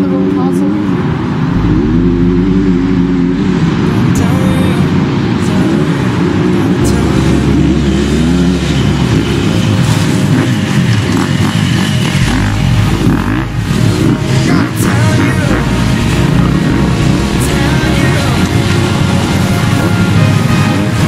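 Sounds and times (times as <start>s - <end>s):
dirt bikes revving past: 1.4s - 21.0s.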